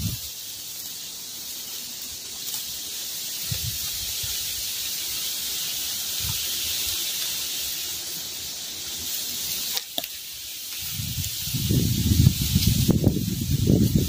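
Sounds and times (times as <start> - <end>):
wind through foliage: 0.0 - 14.0.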